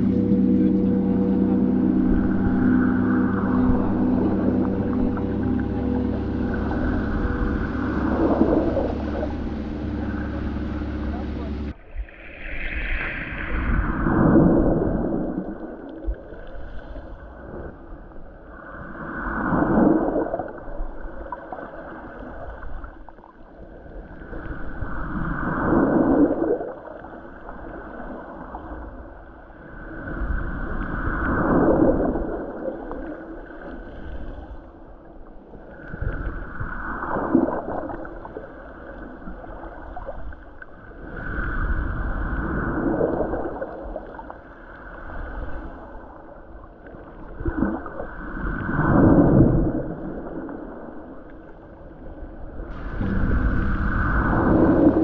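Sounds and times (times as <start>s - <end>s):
muffled underwater water surge: 0.0s - 55.0s.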